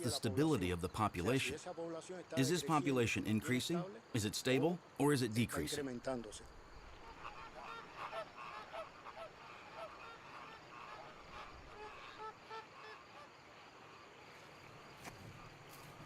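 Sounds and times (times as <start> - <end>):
soft background hiss: 0.0 - 16.0.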